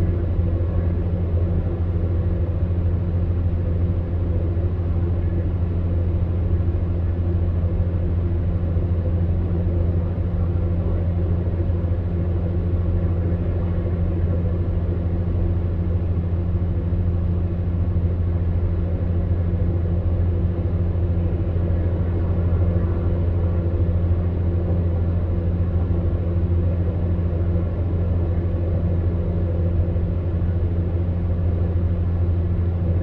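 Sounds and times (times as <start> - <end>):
fan heater motor hum: 0.0 - 33.0.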